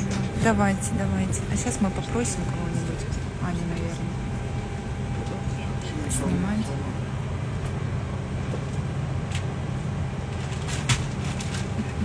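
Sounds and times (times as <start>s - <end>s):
cabin air system hum: 0.0s - 12.0s.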